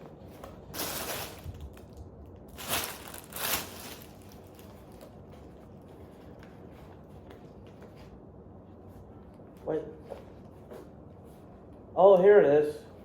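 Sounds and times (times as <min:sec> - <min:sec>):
fabric and packaging rustling: 0:00.0 - 0:11.8.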